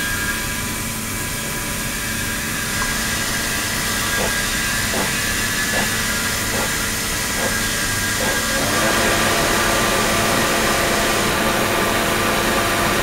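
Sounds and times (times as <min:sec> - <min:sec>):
ultrasonic tank hissing and humming: 0:00.0 - 0:13.0.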